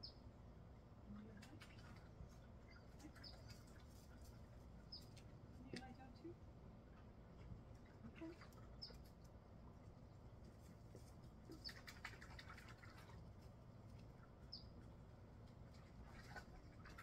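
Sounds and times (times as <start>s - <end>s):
faint clicks and rustles: 1.1s - 6.3s, 6.9s - 17.0s.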